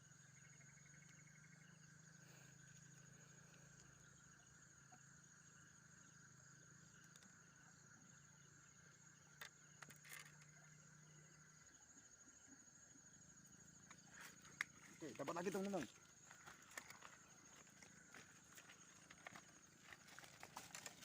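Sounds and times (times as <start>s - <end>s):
night insects chorus: 0.0s - 21.0s.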